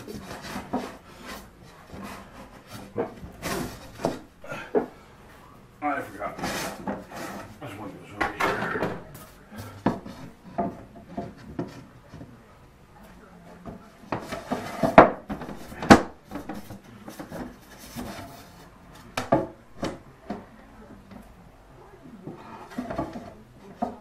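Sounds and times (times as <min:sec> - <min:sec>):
wood rubbing: 0:00.0 - 0:12.6, 0:13.5 - 0:21.3.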